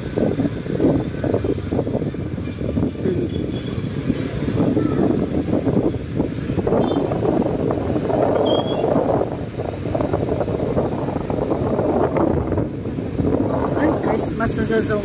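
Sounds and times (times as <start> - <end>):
motorcycle riding noise: 0.0 - 15.0
wind buffeting microphone: 0.0 - 15.0.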